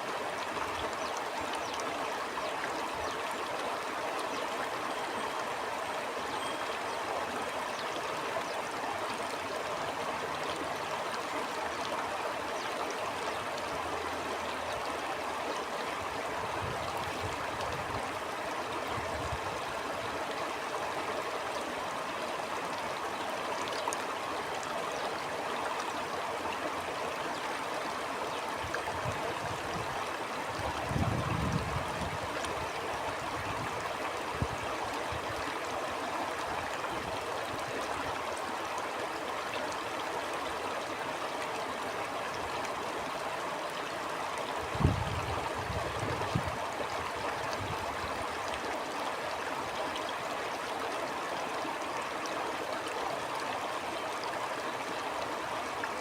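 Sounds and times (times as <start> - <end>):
stream water rushing and gurgling: 0.0 - 56.0.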